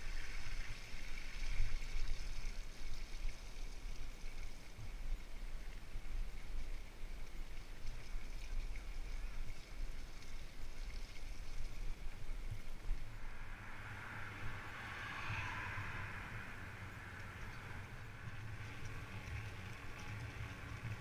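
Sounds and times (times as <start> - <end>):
bike tyres rolling on wet tarmac: 0.0 - 21.0
wind rumbling on microphone: 0.0 - 21.0.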